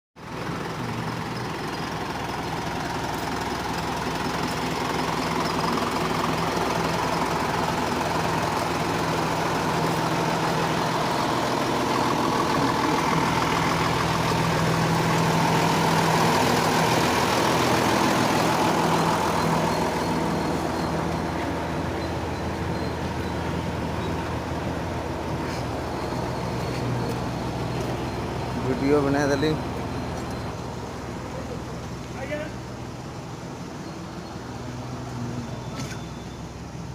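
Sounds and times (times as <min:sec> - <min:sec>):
concrete pump engine running: 0:00.2 - 0:36.9.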